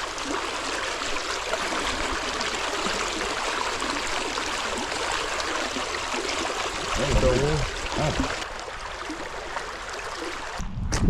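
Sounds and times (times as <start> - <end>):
floodwater rushing: 0.0 - 10.6.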